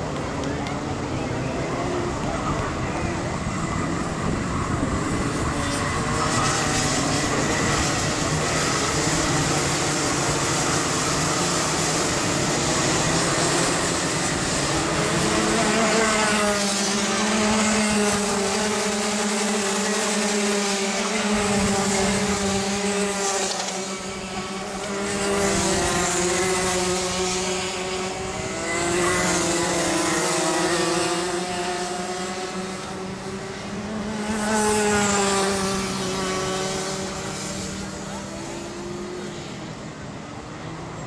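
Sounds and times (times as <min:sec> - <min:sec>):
kart engines racing: 0:00.0 - 0:41.0.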